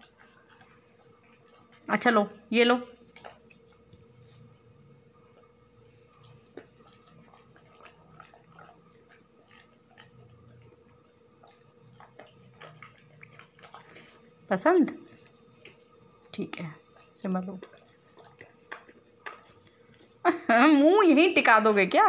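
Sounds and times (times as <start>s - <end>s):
dog chewing food: 0.0s - 20.3s.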